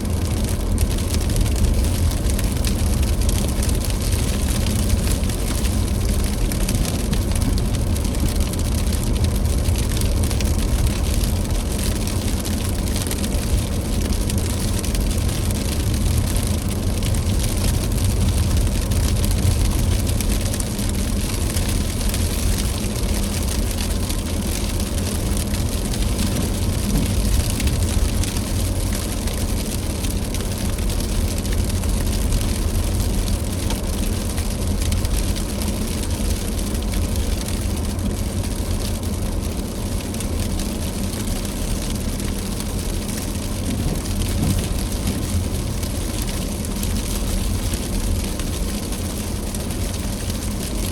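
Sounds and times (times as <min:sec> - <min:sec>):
car engine rumble: 0:00.0 - 0:50.9
tyres hissing on wet road: 0:02.7 - 0:50.8.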